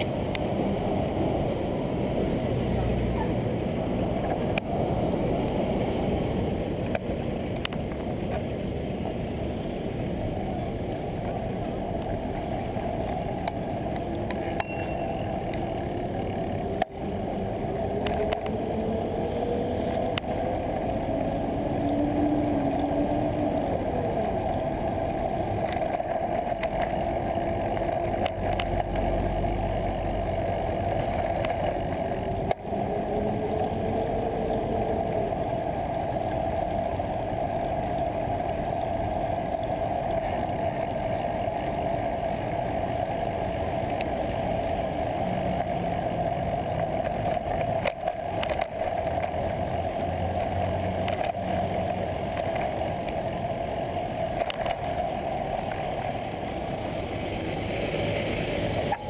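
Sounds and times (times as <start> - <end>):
bicycle road noise: 0.0 - 59.0
city traffic: 0.0 - 59.0
low engine hum: 0.0 - 59.0
wind noise: 0.0 - 59.0.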